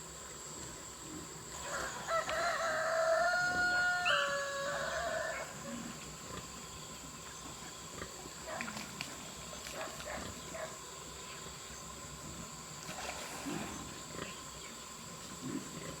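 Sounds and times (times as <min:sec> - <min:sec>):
steady high hum: 0:00.0 - 0:16.0.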